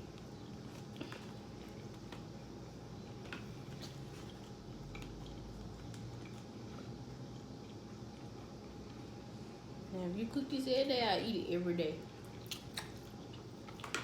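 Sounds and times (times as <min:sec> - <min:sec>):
soft wet chewing: 0:00.0 - 0:09.9, 0:12.0 - 0:14.0
low steady hum: 0:00.0 - 0:14.0.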